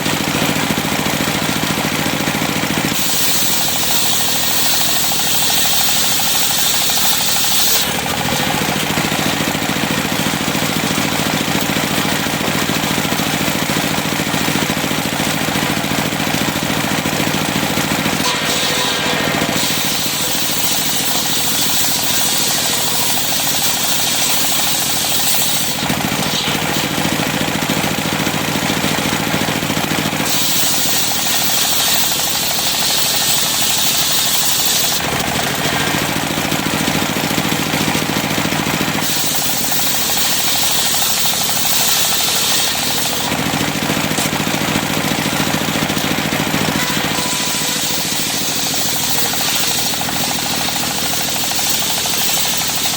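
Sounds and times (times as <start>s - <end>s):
circular saw cutting wood: 0.4s - 52.9s.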